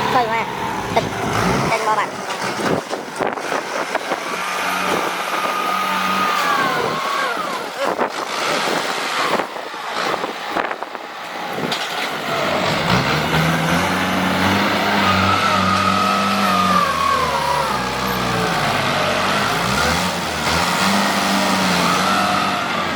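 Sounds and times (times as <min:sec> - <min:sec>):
work vehicle engine running: 0:00.0 - 0:22.9.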